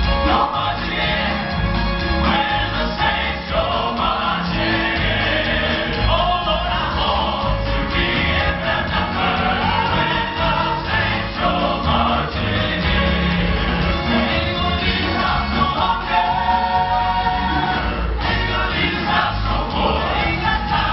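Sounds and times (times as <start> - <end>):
keyboard accompaniment: 0.0 - 20.9
male vocal ensemble singing in harmony: 0.0 - 20.9.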